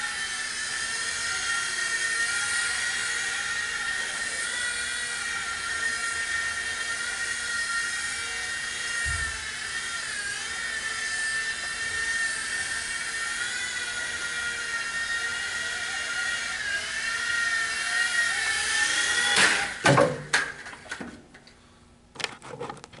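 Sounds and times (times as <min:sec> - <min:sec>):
rc helicopter rotor whine: 0:00.0 - 0:19.9.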